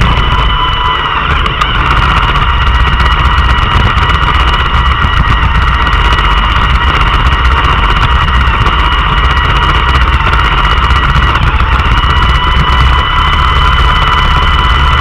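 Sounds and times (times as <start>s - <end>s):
robot vacuum whining: 0.0s - 14.9s
low rumble of machine vibrating: 0.0s - 15.0s.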